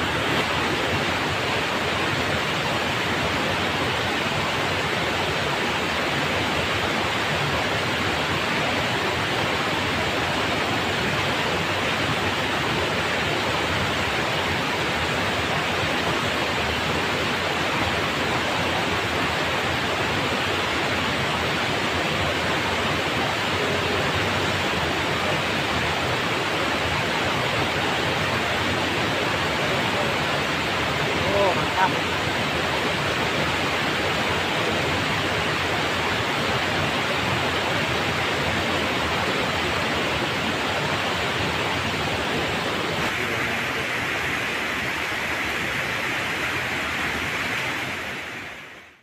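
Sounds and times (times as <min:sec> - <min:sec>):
river water rushing over weir: 0:00.0 - 0:49.0.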